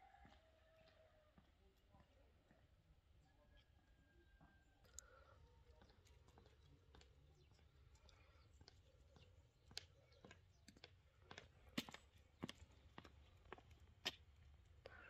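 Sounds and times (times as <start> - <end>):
footsteps on concrete: 0.0 - 3.2, 5.6 - 14.8.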